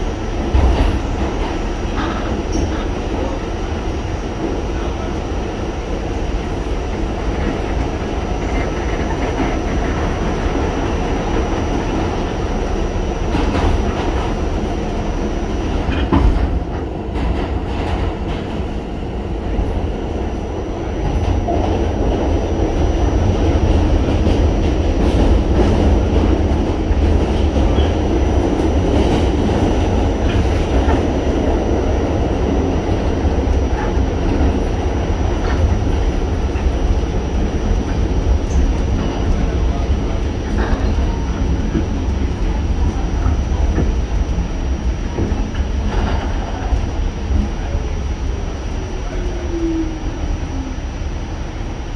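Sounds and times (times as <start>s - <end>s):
subway car wheels rumbling: 0.0s - 51.9s.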